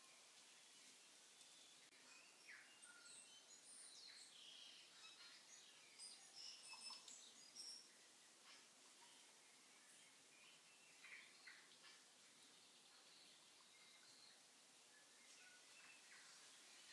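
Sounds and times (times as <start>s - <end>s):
quiet hiss: 0.0s - 16.9s.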